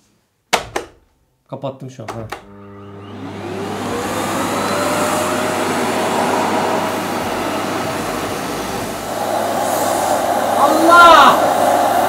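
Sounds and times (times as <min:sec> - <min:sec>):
vacuum cleaner running: 0:02.3 - 0:12.0.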